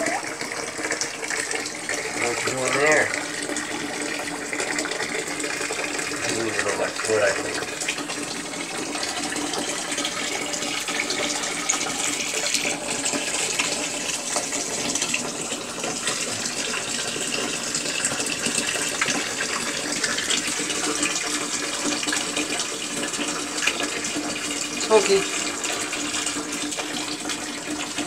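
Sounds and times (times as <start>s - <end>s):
tap water running into bathtub: 0.0s - 28.0s.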